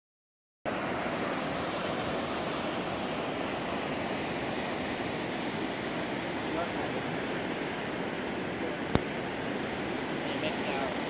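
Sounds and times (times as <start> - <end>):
river water rushing through gates: 0.7 - 11.0
white-water rapids: 0.7 - 11.0.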